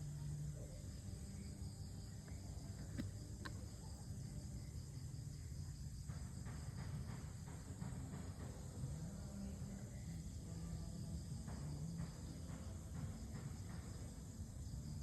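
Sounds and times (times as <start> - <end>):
insects chirping: 0.0 - 15.0
low hum: 0.0 - 15.0.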